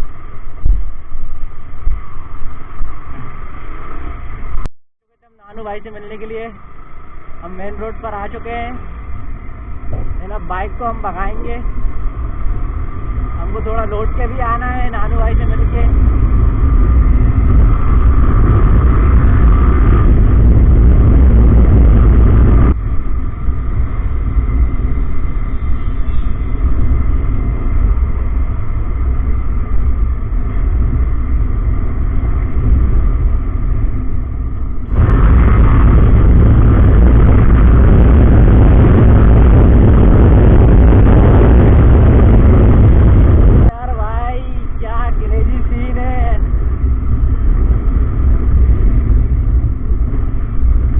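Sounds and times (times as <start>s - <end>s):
wind buffeting microphone: 5.6s - 50.9s.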